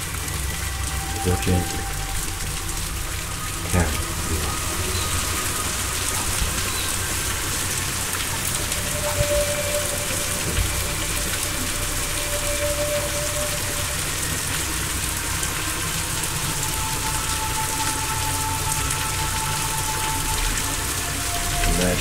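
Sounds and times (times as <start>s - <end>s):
falling rain hiss: 0.0s - 22.0s.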